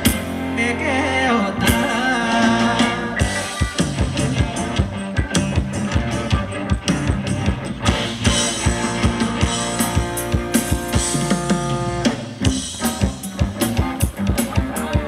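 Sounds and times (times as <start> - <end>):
drum kit beat: 0.0 - 0.6, 1.6 - 15.0
live band playing dance music: 0.0 - 15.0.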